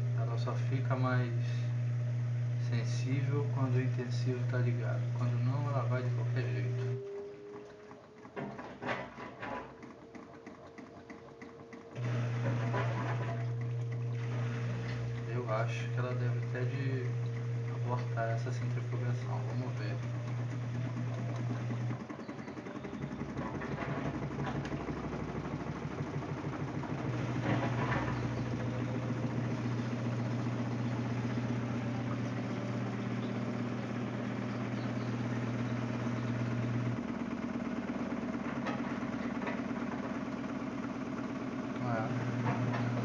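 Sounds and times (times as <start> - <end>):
washing machine drum churning: 0.0 - 43.0
washing machine motor hum: 0.0 - 43.0.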